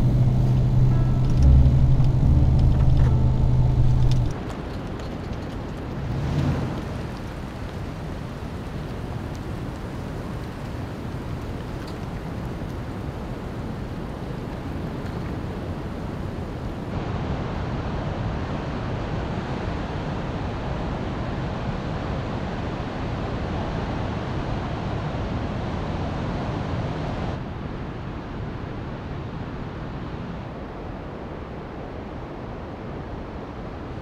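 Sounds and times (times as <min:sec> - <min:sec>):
wind: 0:00.0 - 0:34.0.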